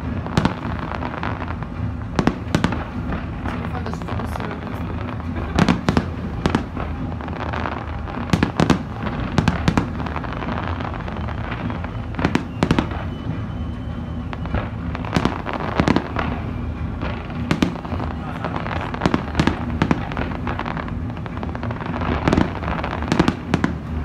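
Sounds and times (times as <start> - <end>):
fireworks bursting with sharp bangs: 0.0 - 24.0
low rumble: 0.0 - 24.0.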